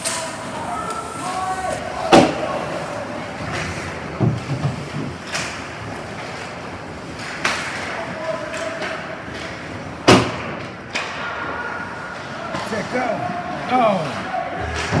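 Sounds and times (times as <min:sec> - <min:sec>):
hockey sticks and puck clacking: 0:00.0 - 0:15.0.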